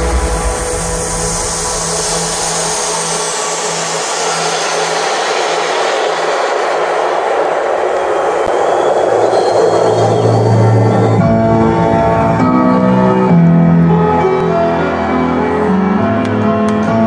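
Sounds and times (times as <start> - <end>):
electronic dance music: 0.0 - 14.0
crowd noise: 0.0 - 17.0.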